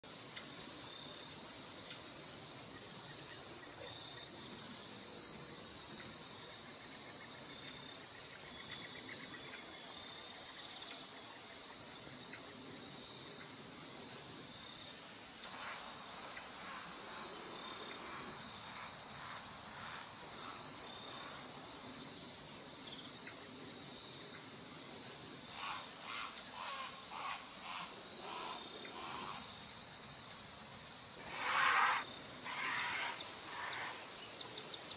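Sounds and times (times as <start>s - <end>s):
crickets trilling: 0.0s - 34.9s.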